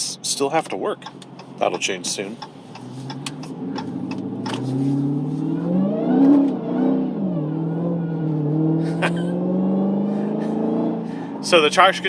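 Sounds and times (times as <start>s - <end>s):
car engine accelerating hard: 2.2s - 12.0s.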